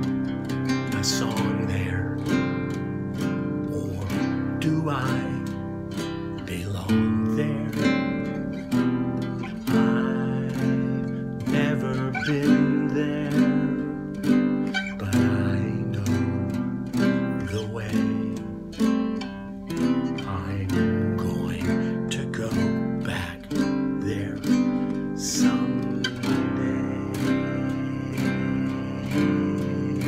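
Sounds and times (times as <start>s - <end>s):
nylon-string guitar plucked and strummed: 0.0s - 30.0s.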